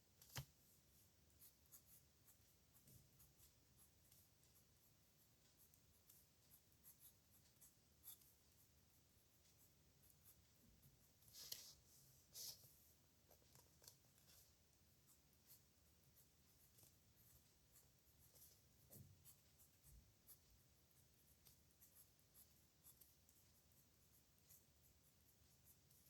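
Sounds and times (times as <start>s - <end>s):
pen scratching on paper: 0.4s - 12.7s, 13.3s - 26.0s.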